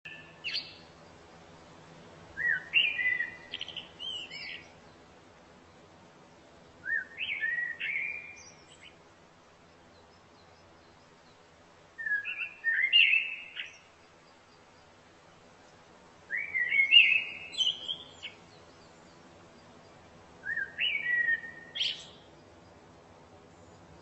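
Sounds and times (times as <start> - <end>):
bird singing: 0.0 - 1.4, 2.3 - 5.9, 6.8 - 9.0, 9.6 - 22.9.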